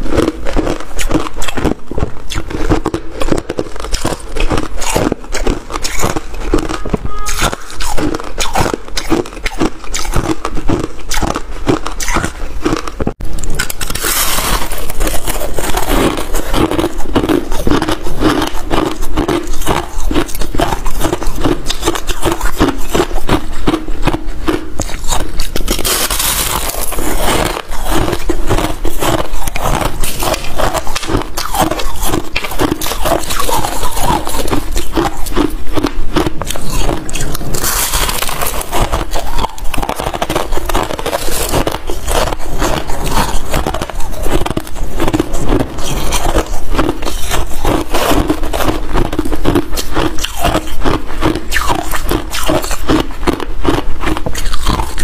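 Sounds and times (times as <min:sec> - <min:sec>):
chewing ice: 0:00.0 - 0:55.0.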